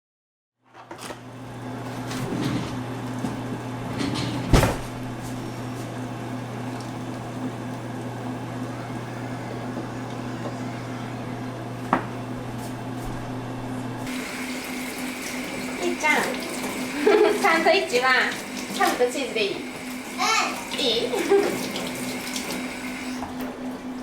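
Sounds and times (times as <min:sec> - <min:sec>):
appliance electrical hum: 0:00.6 - 0:24.0.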